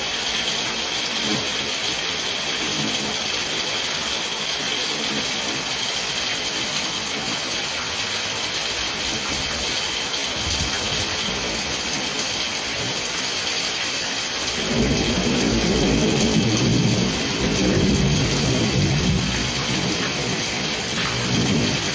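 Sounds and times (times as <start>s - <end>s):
heavy rain pouring: 0.0s - 21.9s.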